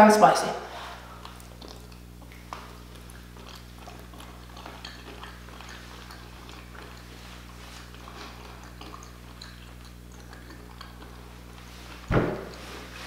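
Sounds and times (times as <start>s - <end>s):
steady low hum: 0.0s - 13.0s
wet chewing clicks and smacks: 1.0s - 13.0s.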